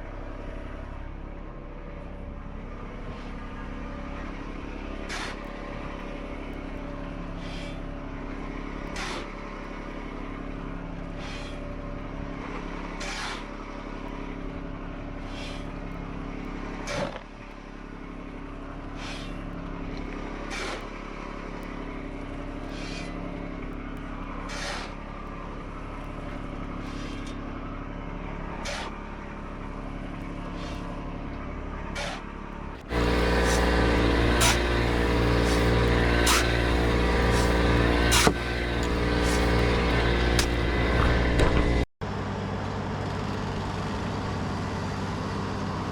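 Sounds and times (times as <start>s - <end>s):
skid steer engine running: 0.0s - 45.9s.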